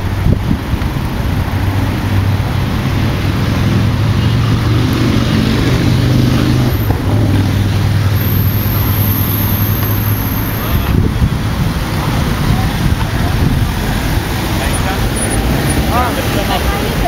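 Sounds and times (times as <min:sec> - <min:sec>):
wind on microphone: 0:00.0 - 0:15.9
road traffic: 0:00.0 - 0:17.0.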